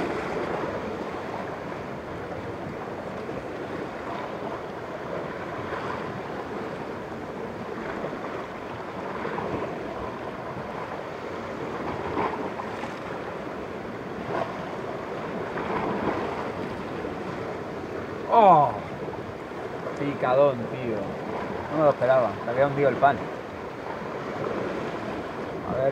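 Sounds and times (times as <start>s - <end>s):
sea waves washing against rocks: 0.0s - 25.9s.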